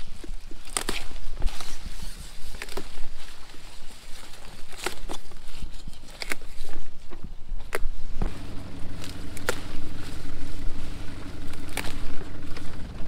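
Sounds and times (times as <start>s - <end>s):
peppers snapping off plants: 0.0s - 10.4s, 11.4s - 12.8s
engine humming: 0.0s - 13.0s.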